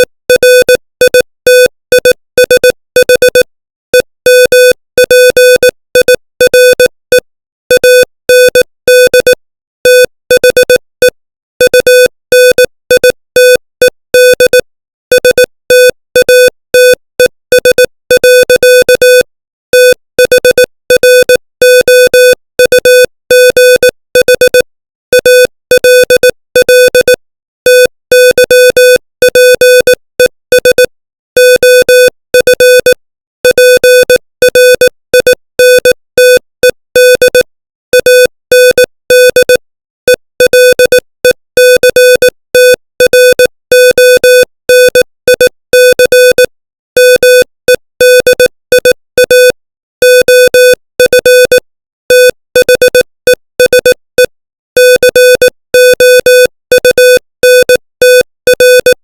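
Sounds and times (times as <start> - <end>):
morse code tone: 0.0 - 59.0.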